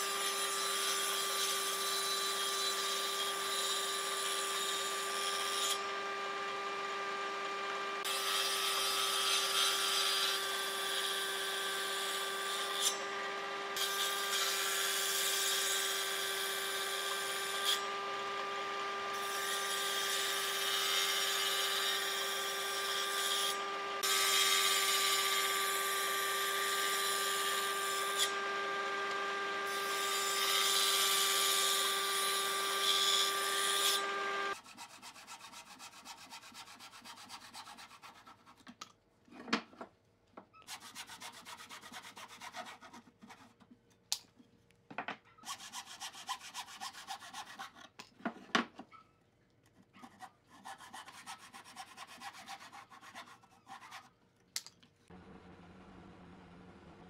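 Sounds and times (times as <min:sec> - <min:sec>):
handsaw cutting boards: 0:00.0 - 0:38.8, 0:40.7 - 0:43.6, 0:45.4 - 0:48.4, 0:50.0 - 0:54.1.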